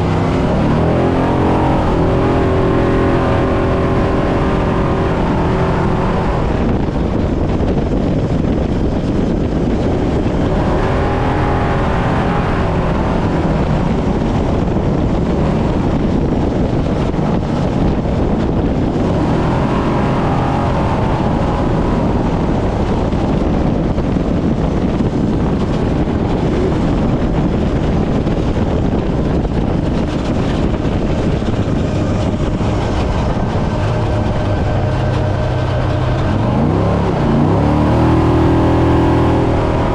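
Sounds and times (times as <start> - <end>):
truck engine revving: 0.0 - 7.5, 9.2 - 39.9
wind: 0.0 - 39.9.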